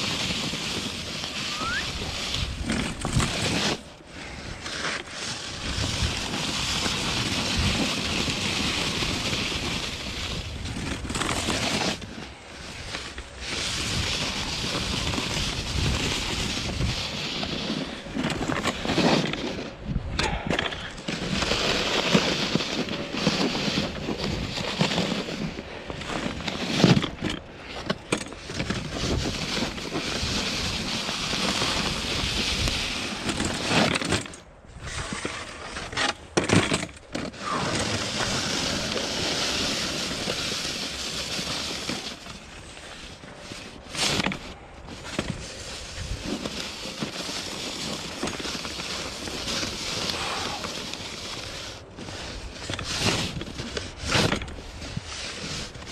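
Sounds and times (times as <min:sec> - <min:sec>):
snow pusher blade scraping concrete: 0:00.0 - 0:55.9.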